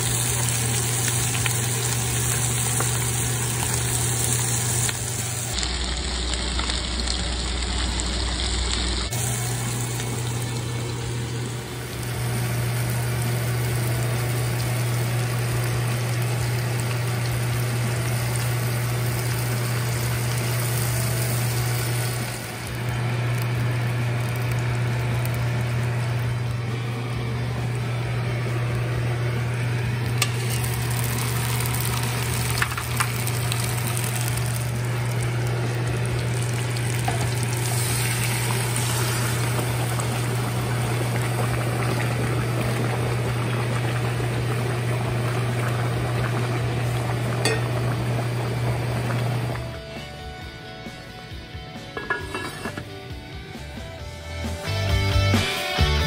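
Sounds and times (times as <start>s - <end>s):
gas stove hiss: 0.0s - 49.8s
low hum: 0.0s - 50.2s.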